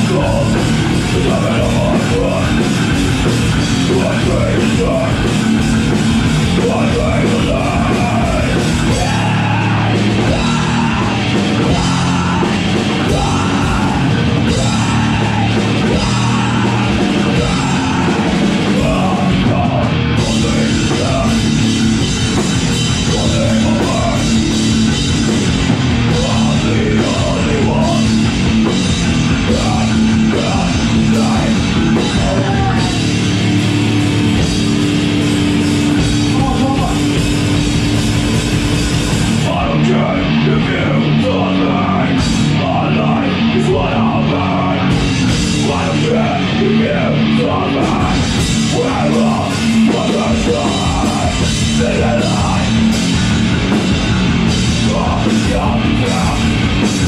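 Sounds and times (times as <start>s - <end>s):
live punk band playing: 0.0s - 57.0s.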